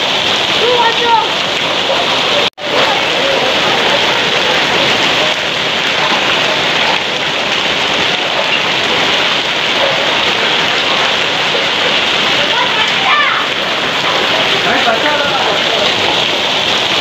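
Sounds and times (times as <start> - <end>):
heavy rain on muddy ground: 0.0 - 17.0.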